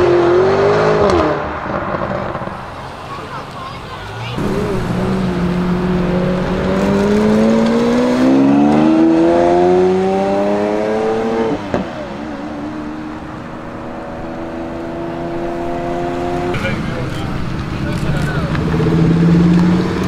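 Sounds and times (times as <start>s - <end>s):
sports car engine accelerating: 0.0s - 3.5s, 4.1s - 20.0s.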